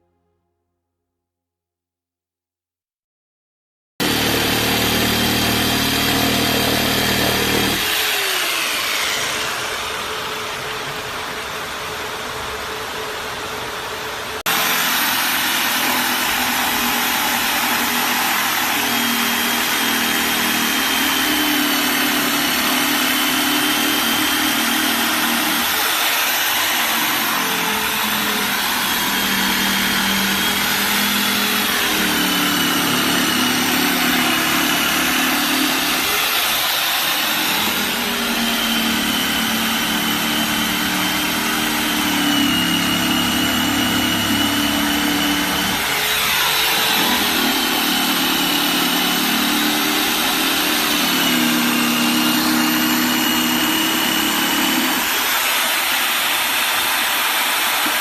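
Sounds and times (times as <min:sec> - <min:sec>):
electric jigsaw motor whine: 0:04.0 - 0:11.7, 0:14.5 - 0:58.0.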